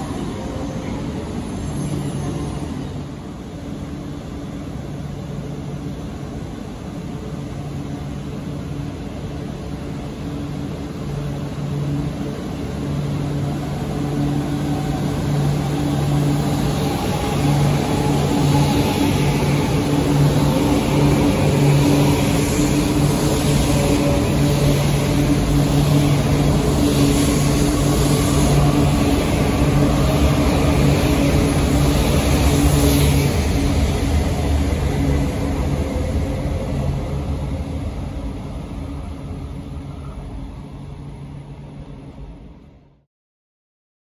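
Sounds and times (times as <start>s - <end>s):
train passing: 0.0s - 42.9s
rush of train noise: 0.0s - 43.1s.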